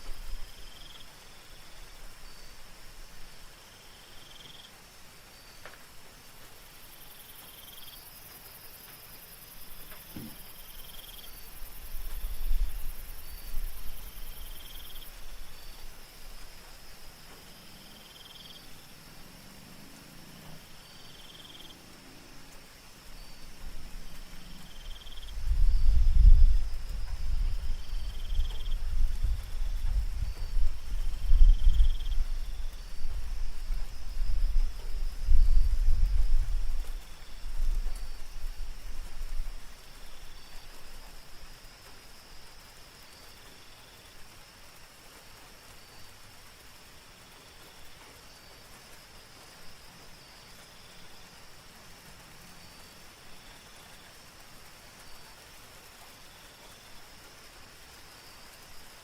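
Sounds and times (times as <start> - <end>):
short insect chirp: 0.0 - 59.0
cricket trill: 6.4 - 59.0.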